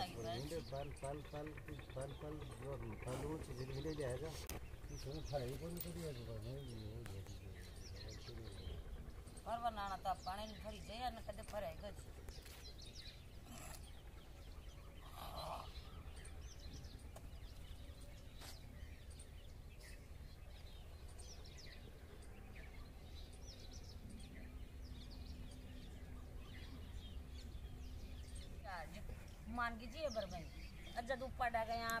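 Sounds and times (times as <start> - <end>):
steady low rumble: 0.0 - 31.7
small birds chirping: 0.0 - 32.0.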